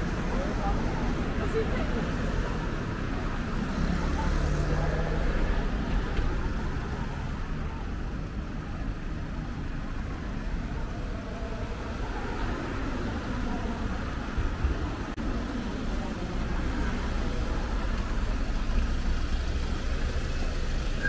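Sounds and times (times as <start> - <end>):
rumble of passing cars: 0.0 - 21.0.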